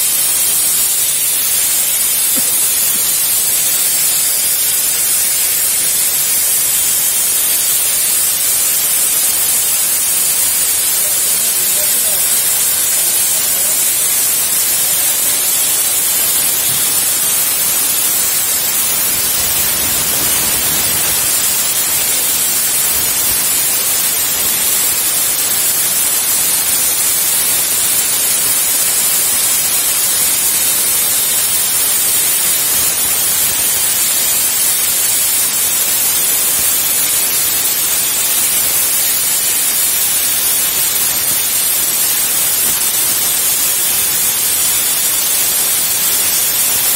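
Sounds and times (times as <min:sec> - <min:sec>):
plasma torch hissing: 0:00.0 - 0:46.9.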